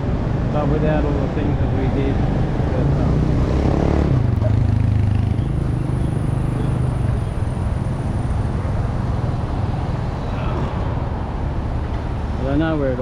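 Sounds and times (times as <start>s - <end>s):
low traffic hum: 0.0s - 13.0s
road noise: 0.0s - 13.0s.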